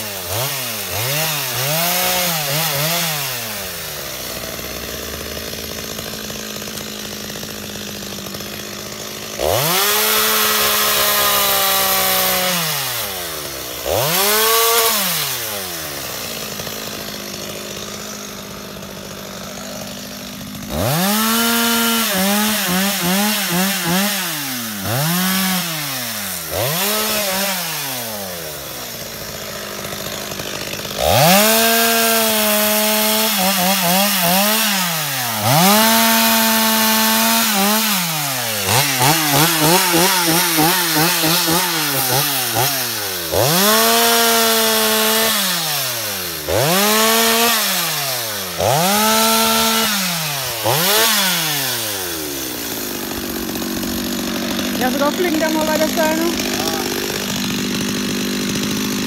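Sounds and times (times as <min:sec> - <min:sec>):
chainsaw revving and cutting: 0:00.0 - 0:59.0.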